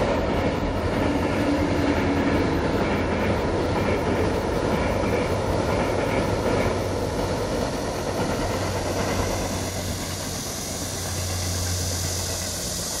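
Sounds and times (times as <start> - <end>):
train rumbling over track: 0.0 - 13.0.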